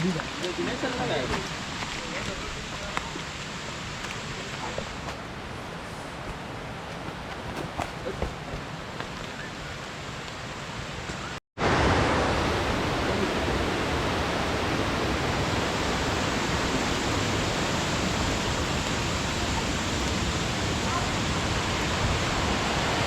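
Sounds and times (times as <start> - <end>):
waterfall rushing: 0.0 - 5.1, 9.5 - 23.0.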